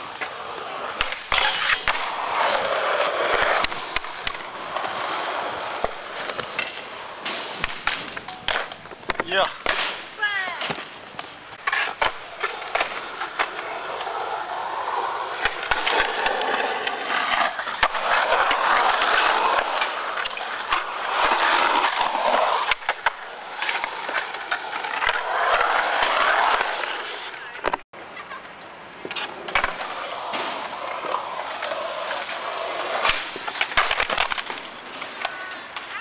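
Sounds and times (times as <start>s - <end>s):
skateboard wheels rolling on concrete: 0.0s - 36.0s
skateboards clacking on ground: 0.0s - 36.0s.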